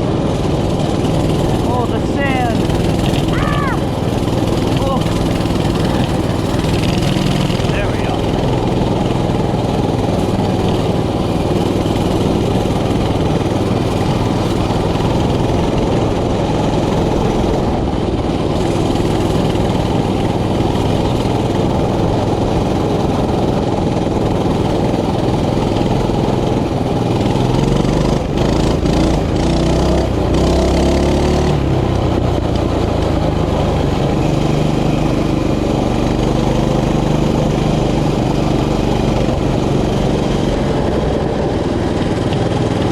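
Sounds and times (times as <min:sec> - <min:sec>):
mini bike engine running: 0:00.0 - 0:42.9.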